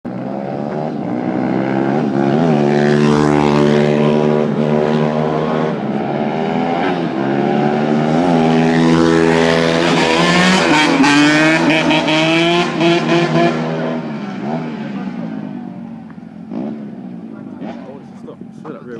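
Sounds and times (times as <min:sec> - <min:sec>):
dirt bike engines revving: 0:00.1 - 0:18.9.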